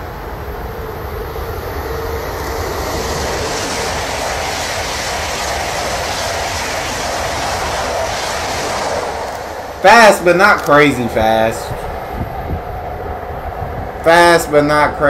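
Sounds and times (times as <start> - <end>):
high-speed train rushing past: 0.0 - 15.0.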